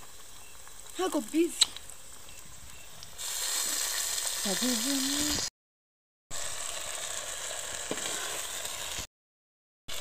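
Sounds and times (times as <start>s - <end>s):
vegetables sizzling in hot oil: 0.0s - 5.5s, 6.3s - 9.1s.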